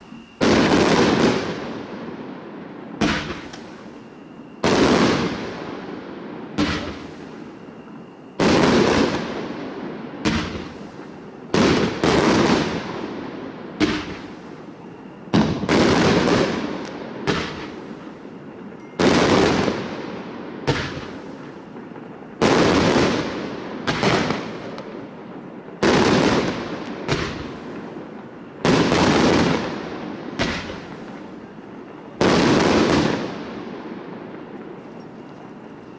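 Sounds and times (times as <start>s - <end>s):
firework bangs: 0.0s - 35.9s
firework crackling: 0.0s - 35.9s.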